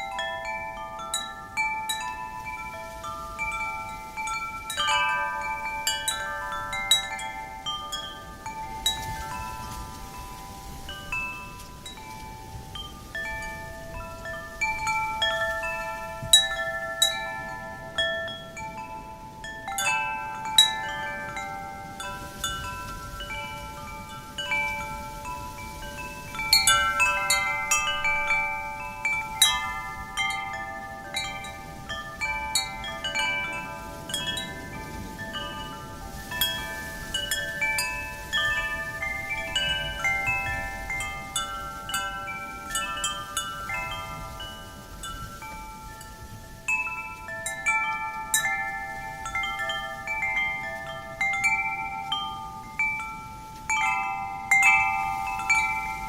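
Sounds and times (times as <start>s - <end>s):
faint wind rush: 0.0s - 56.0s
wind chimes ringing: 0.0s - 56.0s.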